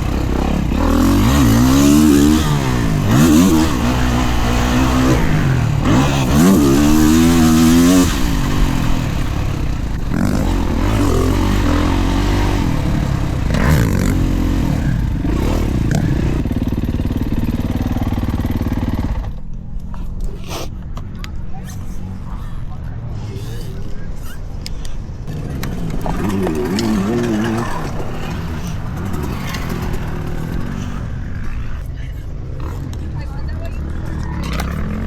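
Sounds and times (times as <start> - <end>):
dirt bike engine revving: 0.0 - 19.5, 23.1 - 35.0.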